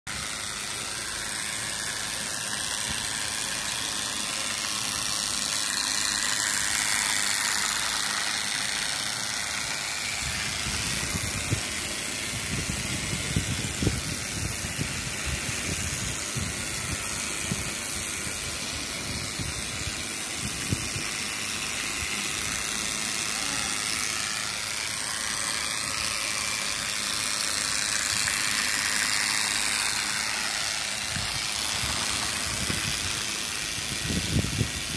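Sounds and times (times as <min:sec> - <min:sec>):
toy train motor whirring: 0:00.0 - 0:34.9
toy train rattling and clicking: 0:00.1 - 0:34.9.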